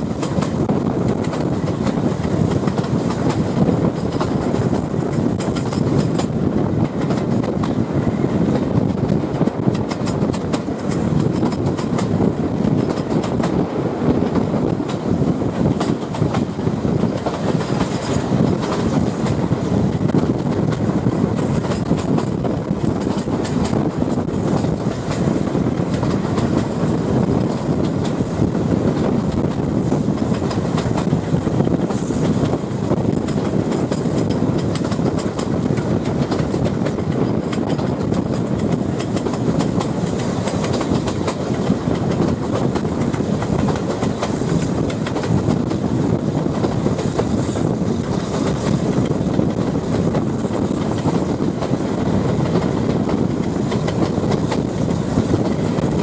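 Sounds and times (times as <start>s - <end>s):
train wheels rumbling on rails: 0.0s - 56.0s
wheels clacking over rail joints: 0.0s - 56.0s.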